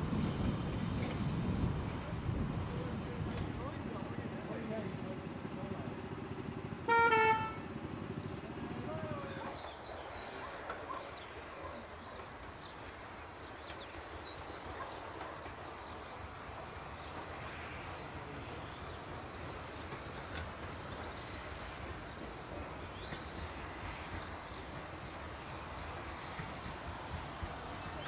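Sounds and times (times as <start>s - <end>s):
distant steam locomotive rumble: 0.0s - 28.0s.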